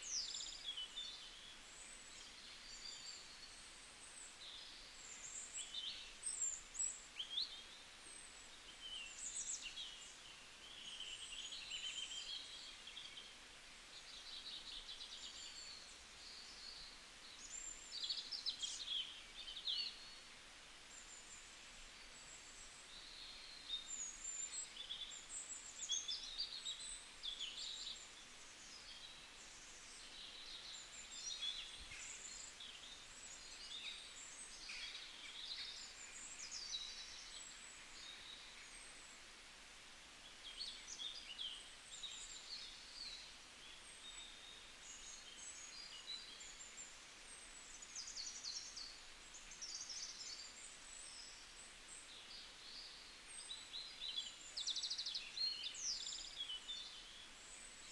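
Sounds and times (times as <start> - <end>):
faint steady hiss: 0.0 - 57.9.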